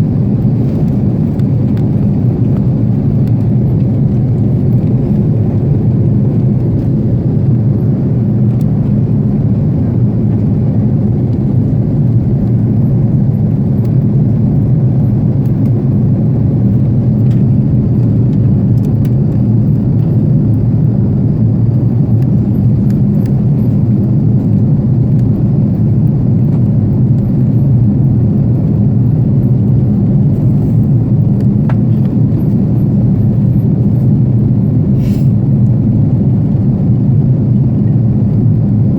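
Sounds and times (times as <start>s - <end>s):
airliner cabin jet drone: 0.0s - 38.9s.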